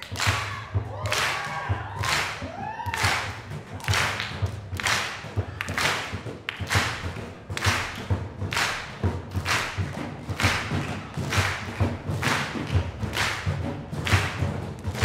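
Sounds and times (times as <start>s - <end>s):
trash cans played as drums: 0.0s - 15.0s.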